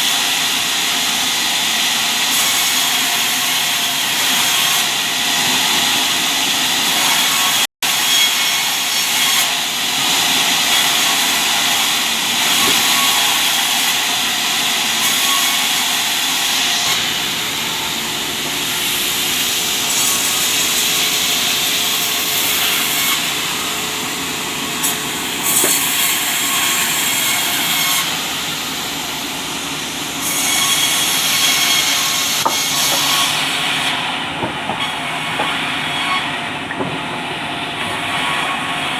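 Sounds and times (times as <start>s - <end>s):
circular saw cutting wood: 0.0s - 36.5s.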